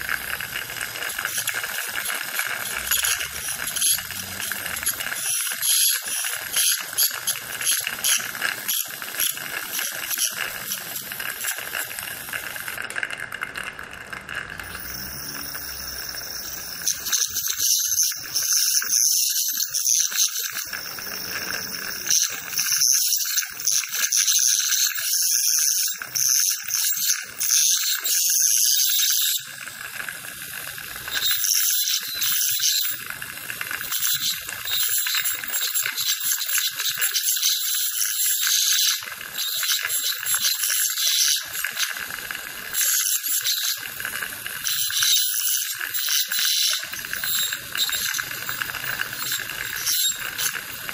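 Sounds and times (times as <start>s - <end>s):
dental ultrasonic handpiece buzzing: 0.0s - 50.9s.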